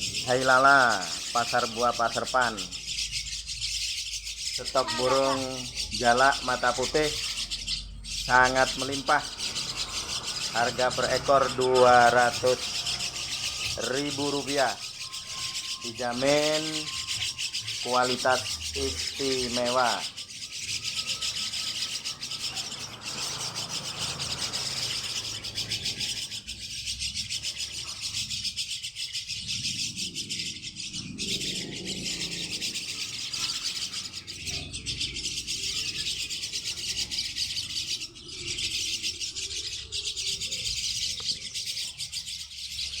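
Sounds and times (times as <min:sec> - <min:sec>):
mynas harsh rasping chatter: 0:00.0 - 0:43.0.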